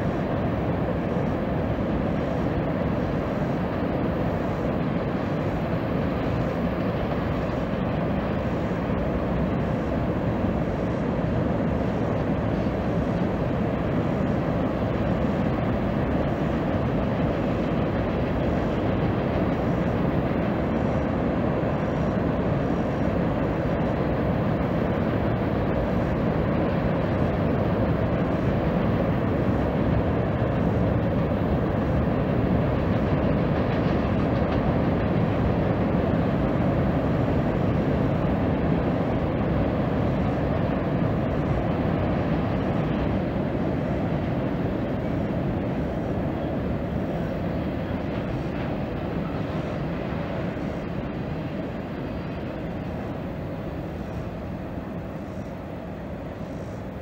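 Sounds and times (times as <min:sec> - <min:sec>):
freight train rumbling on bridge: 0:00.0 - 0:57.0.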